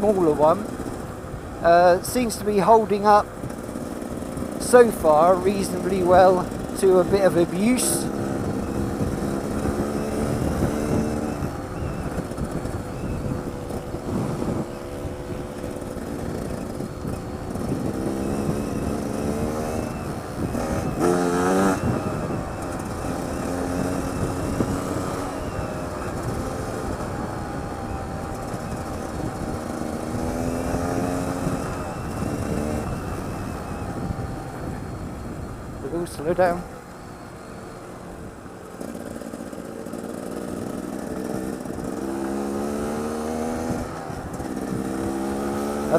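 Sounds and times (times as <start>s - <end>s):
motorcycle engine revving: 0.0s - 45.9s
wind rush on microphone: 0.0s - 45.9s.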